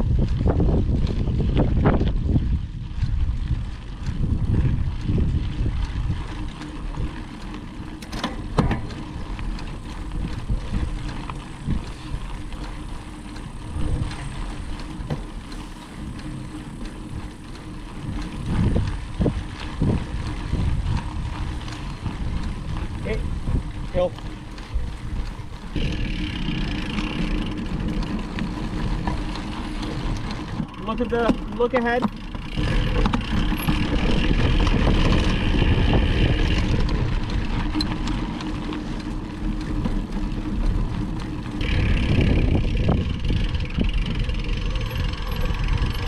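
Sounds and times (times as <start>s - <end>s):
bike rattling: 0.0s - 46.0s
bike rolling over dirt trail: 0.0s - 46.0s
wind rushing over microphone: 0.0s - 46.0s.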